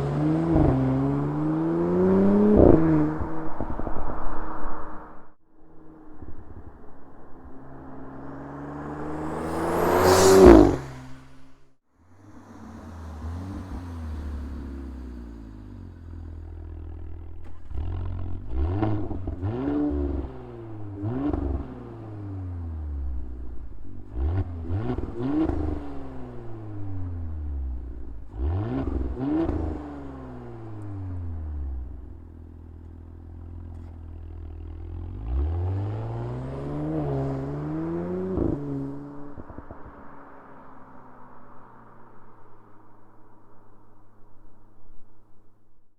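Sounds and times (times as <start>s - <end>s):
car engine idling and revving: 0.0s - 45.8s.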